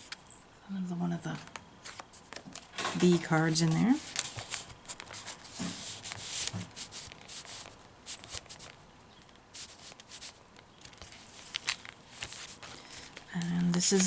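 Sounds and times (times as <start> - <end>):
paper rustling: 1.8 - 14.0.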